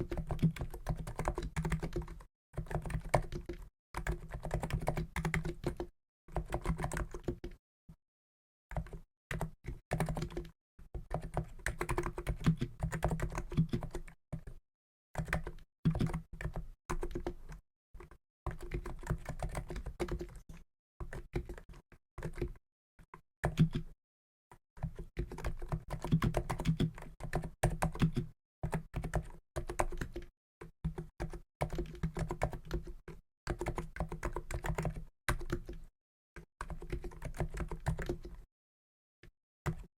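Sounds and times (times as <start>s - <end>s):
muted keyboard typing: 0.0s - 7.6s, 8.7s - 14.6s, 15.2s - 23.9s, 24.8s - 38.5s, 39.7s - 39.9s.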